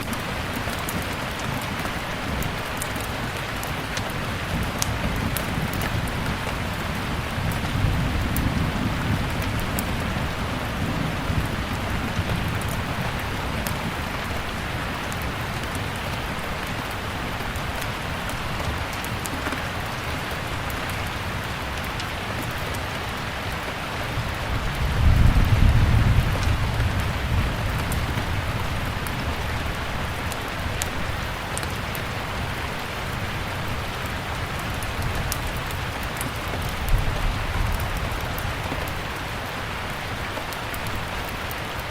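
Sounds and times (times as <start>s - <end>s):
steady rain hissing: 0.0s - 41.9s
wood fire crackling: 0.0s - 41.9s.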